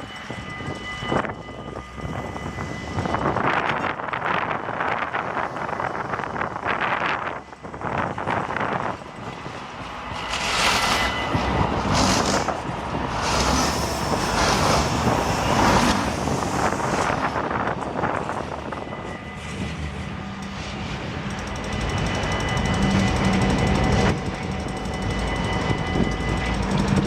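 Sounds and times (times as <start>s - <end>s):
tram passing on track: 0.0s - 27.0s.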